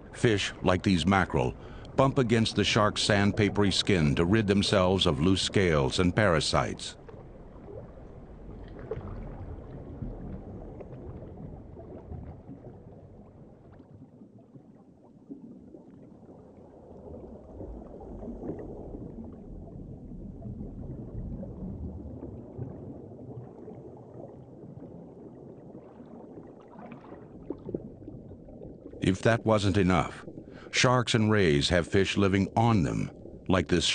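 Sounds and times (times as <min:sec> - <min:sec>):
underwater water noise: 0:00.0 - 0:33.9.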